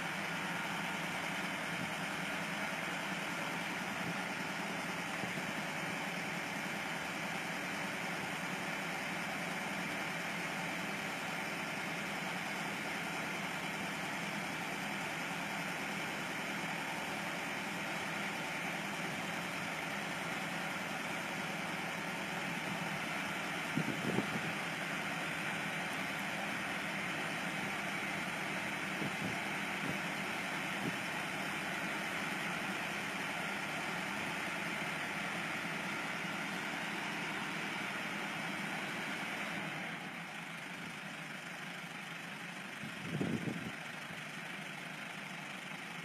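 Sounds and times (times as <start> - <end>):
tractor diesel engine idling: 0.0 - 46.0.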